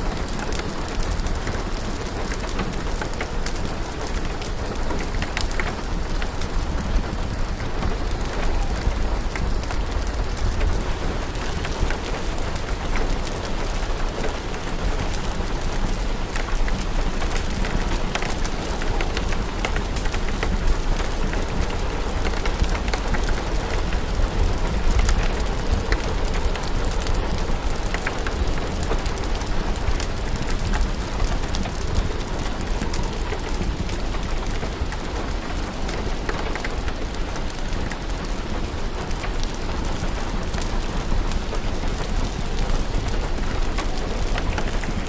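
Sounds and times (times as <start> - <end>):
steady rain: 0.0 - 45.0
wood fire crackling: 0.0 - 45.0.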